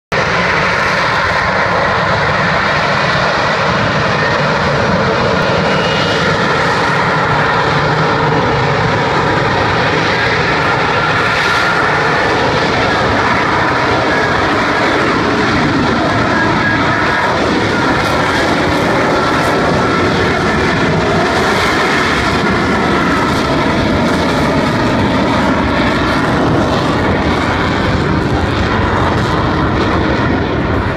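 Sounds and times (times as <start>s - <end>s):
fighter jet hovering roar: 0.1s - 30.9s.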